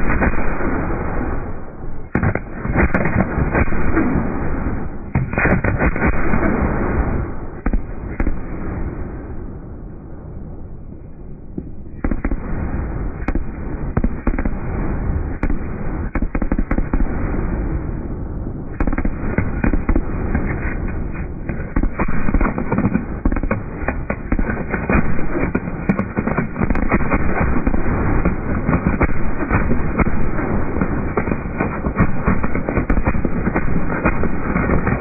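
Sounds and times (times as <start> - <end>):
fireworks booms and cracks: 0.0 - 10.8, 11.5 - 35.0
continuous rumble: 0.0 - 35.0.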